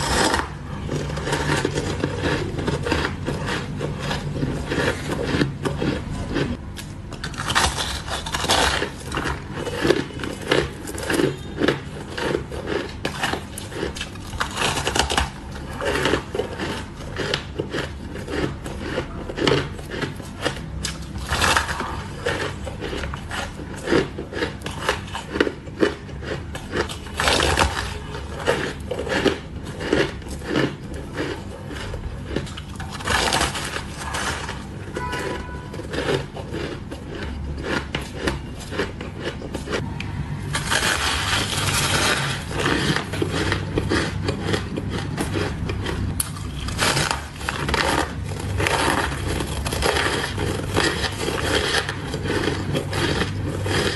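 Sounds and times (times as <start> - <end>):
crunching shaved ice: 0.0 - 53.9.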